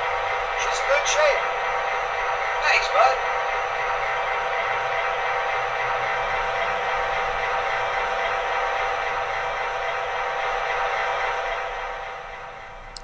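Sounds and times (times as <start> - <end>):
diesel locomotive engine through small speaker: 0.0 - 13.0.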